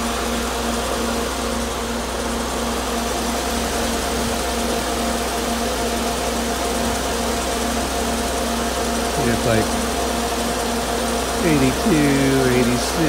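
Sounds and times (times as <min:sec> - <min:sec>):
car engine idling: 0:00.0 - 0:13.0
electric cooling fans running: 0:00.0 - 0:13.0.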